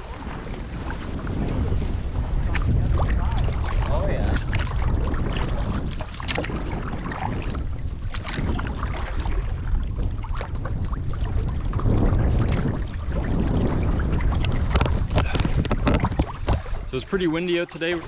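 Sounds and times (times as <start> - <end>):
canoe paddle splashes: 0.0 - 18.0
wind blowing across microphone: 0.0 - 18.0.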